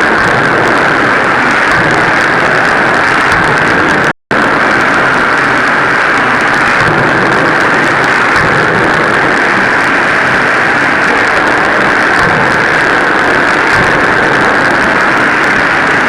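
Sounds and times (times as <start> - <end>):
pneumatic hammer hissing drone: 0.0 - 16.0.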